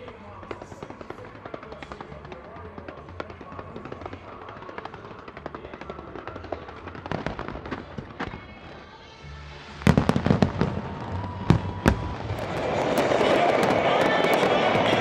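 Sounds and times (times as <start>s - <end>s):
fireworks bangs: 0.0s - 9.0s, 9.6s - 15.0s
fireworks crackling pops: 0.0s - 9.0s, 9.6s - 15.0s.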